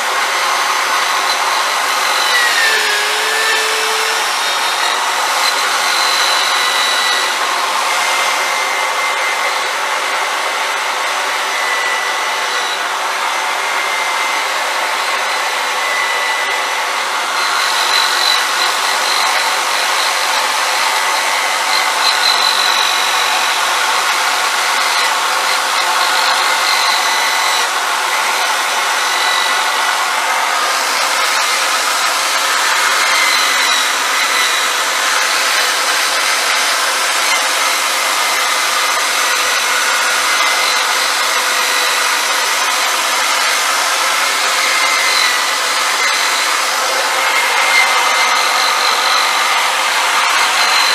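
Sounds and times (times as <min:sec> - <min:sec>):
electric drill whining: 0:00.0 - 0:50.9.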